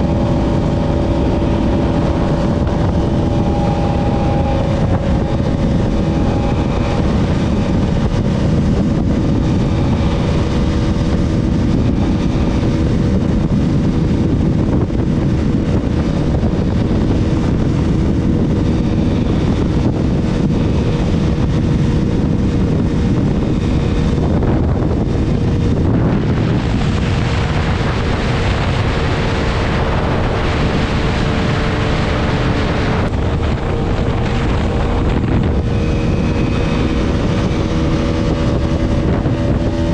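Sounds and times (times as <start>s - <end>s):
motorcycle engine at high revs: 0.0s - 39.9s
wind rush on microphone: 0.0s - 39.9s.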